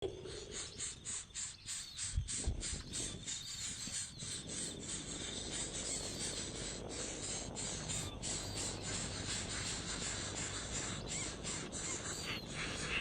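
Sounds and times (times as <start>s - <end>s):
rapid high-pitched chirping: 0.3s - 13.0s.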